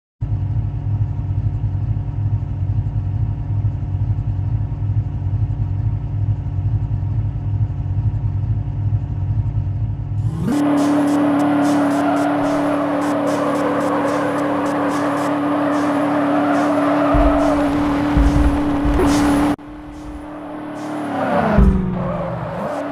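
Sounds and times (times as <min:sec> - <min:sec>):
vehicle engine idling: 0:00.2 - 0:22.9.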